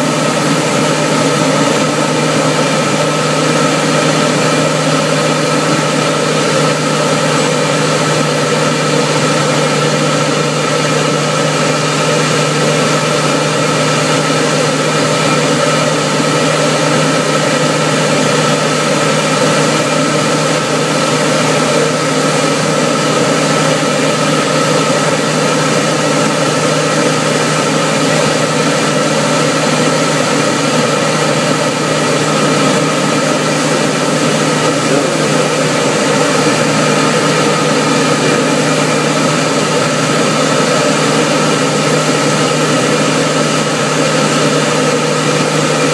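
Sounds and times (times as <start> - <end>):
light aircraft engine droning: 0.0 - 45.9.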